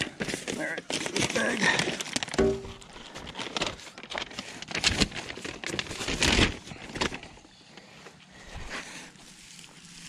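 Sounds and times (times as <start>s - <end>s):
paper bag crinkling: 0.0s - 7.5s, 9.1s - 10.0s.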